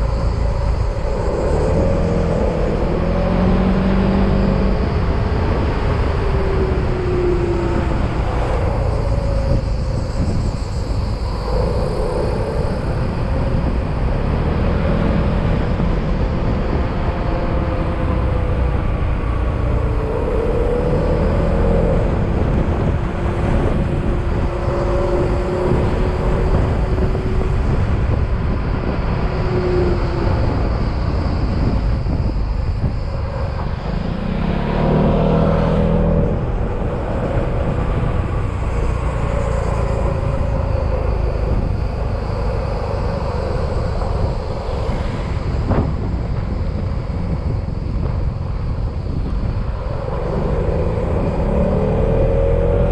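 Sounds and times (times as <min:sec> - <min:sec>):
wind and road noise: 0:00.0 - 0:52.9.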